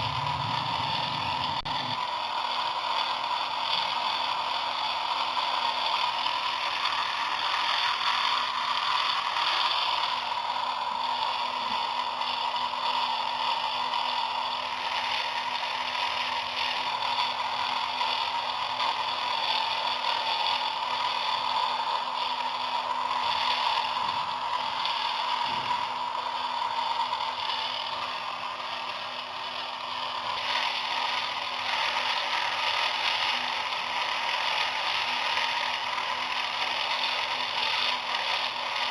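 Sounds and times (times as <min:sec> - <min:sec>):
small electric motor and gears whirring: 0:00.0 - 0:38.9.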